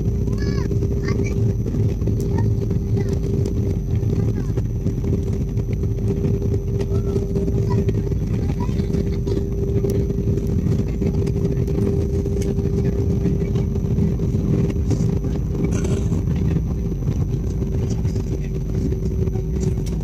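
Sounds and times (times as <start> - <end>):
constant cabin hum: 0.0 - 20.0
engines and wheels rumbling: 0.0 - 20.0.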